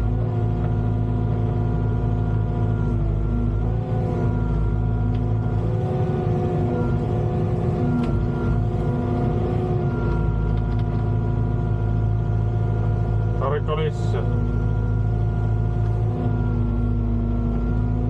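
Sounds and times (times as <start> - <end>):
diesel excavator engine running: 0.0 - 18.0.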